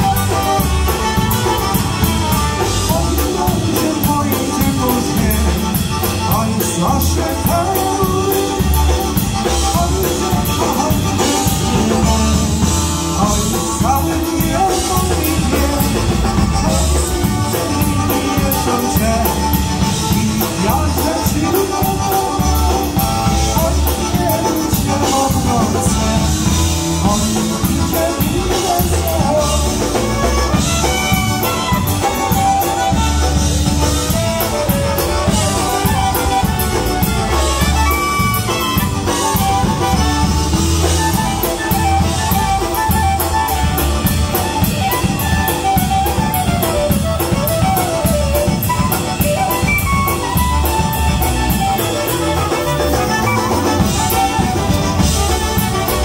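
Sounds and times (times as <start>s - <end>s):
fiddle lead: 0.0s - 56.0s
polka band playing: 0.0s - 56.0s.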